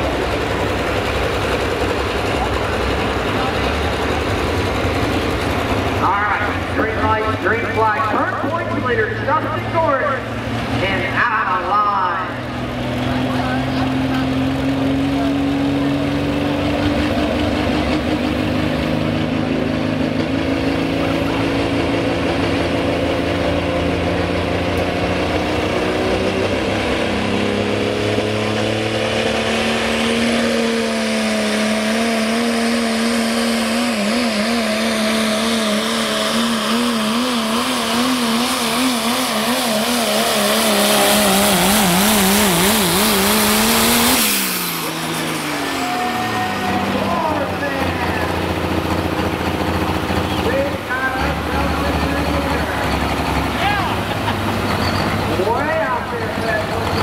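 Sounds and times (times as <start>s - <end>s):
diesel pickup engine revving: 0.0s - 57.0s.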